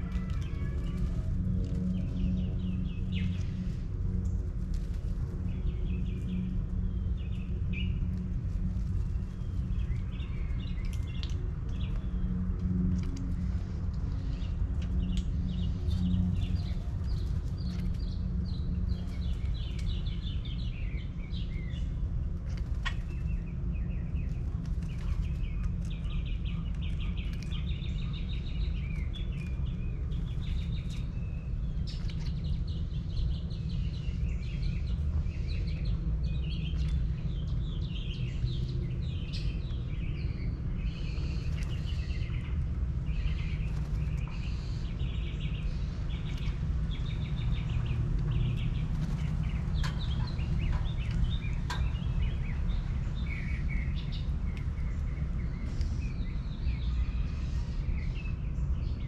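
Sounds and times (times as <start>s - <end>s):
small birds chirping and trilling: 0.0s - 59.0s
steady low rumble: 0.0s - 59.0s.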